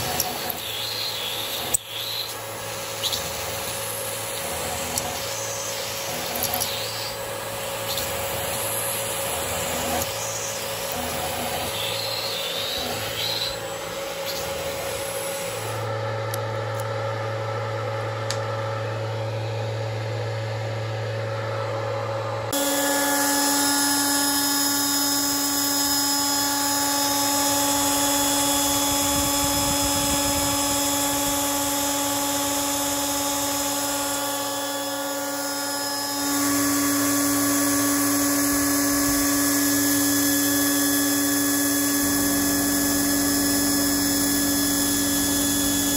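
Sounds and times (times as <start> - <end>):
router spindle whining while milling metal: 0.0 - 17.5, 18.7 - 45.9.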